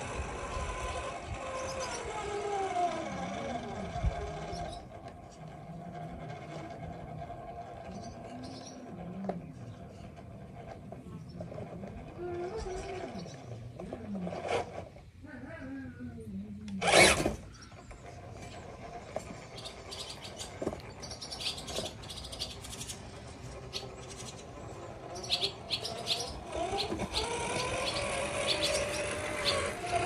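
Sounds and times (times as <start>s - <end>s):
birds chirping: 0.0s - 2.4s, 3.2s - 6.8s, 7.4s - 14.2s, 15.7s - 30.0s
rc truck motor whining: 0.0s - 30.0s.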